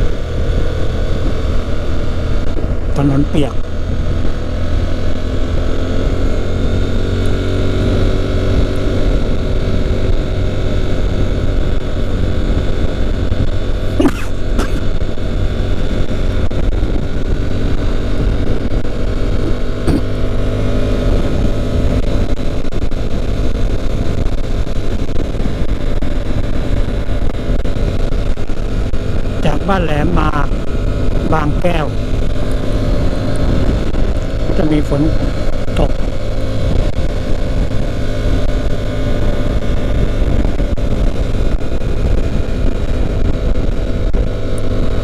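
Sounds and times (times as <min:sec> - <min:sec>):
motorcycle engine running: 0:00.0 - 0:45.0
wind rumble on microphone: 0:00.0 - 0:45.0.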